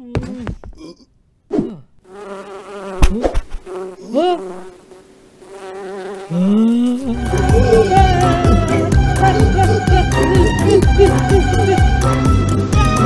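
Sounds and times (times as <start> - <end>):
cartoon bees buzzing: 2.1 - 13.0.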